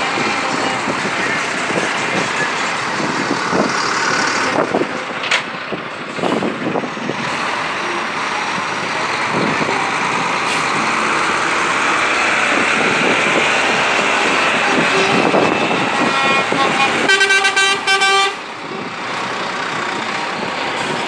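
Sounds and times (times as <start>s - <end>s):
diesel lorries driving past: 0.0s - 21.0s.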